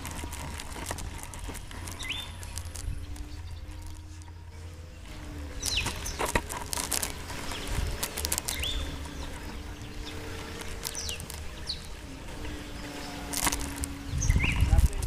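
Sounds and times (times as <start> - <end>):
model plane motor hum: 0.0 - 15.0
wind rumbling on microphone: 0.0 - 15.0.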